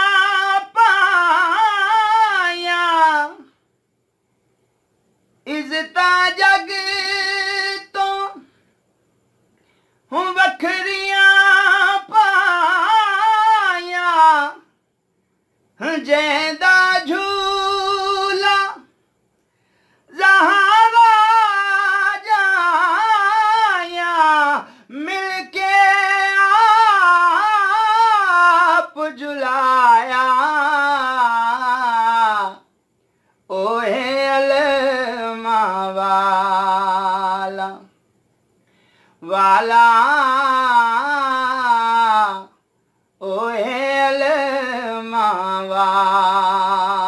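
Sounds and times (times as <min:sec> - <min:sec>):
man singing unaccompanied: 0:00.0 - 0:03.7, 0:05.4 - 0:08.7, 0:09.6 - 0:14.8, 0:15.7 - 0:19.0, 0:20.0 - 0:32.8, 0:33.4 - 0:38.0, 0:39.2 - 0:47.0.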